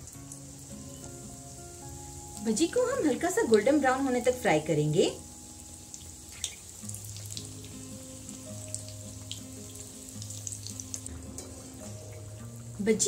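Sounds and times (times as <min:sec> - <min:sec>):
oil sizzling and crackling: 0:00.0 - 0:13.0
soft background music: 0:00.0 - 0:13.0.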